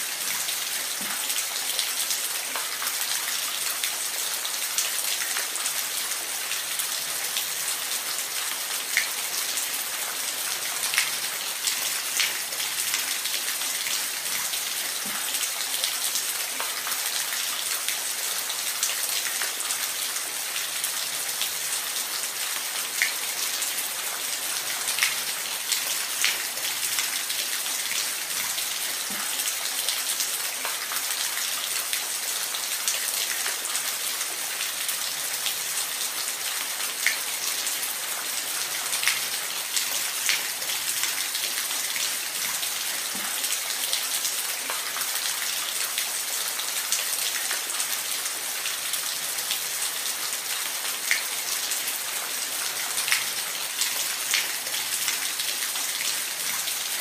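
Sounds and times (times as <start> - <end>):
water splashes and drips: 0.0 - 57.0.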